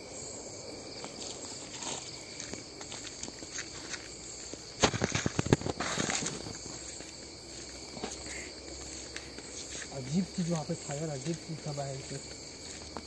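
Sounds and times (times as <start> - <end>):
night insects chirring: 0.0 - 13.0
thumps and rustling of footsteps: 1.0 - 13.0.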